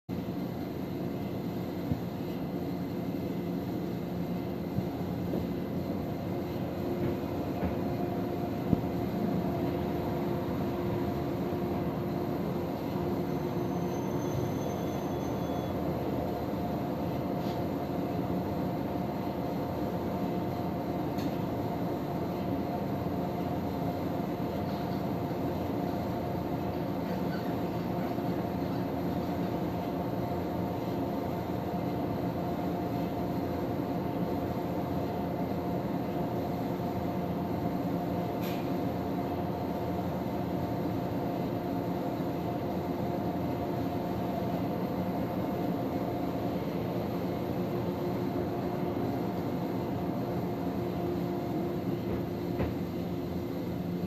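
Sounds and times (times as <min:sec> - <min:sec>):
electric train hum: 0:00.1 - 0:54.0.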